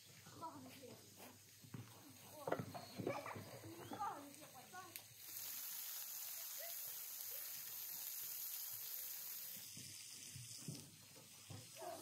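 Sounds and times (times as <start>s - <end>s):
food sizzling on hot stone: 0.0s - 12.0s.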